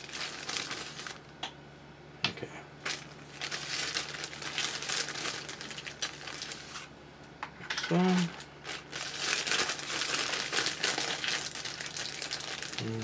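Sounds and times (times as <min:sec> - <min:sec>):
plastic parts rustling: 0:00.0 - 0:01.2, 0:02.8 - 0:06.9, 0:07.6 - 0:12.8.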